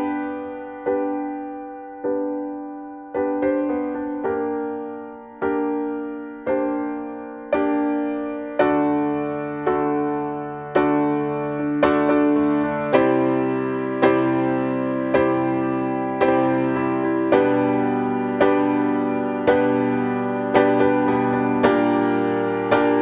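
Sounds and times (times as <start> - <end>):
piano bass line: 0.0 - 23.0
piano chords: 0.0 - 23.0.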